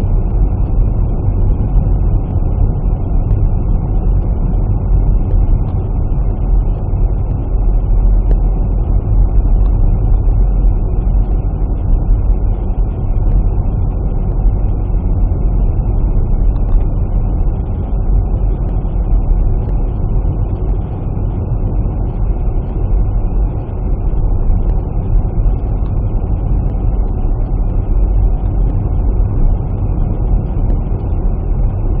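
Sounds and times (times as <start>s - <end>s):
car driving rumble: 0.0s - 32.0s.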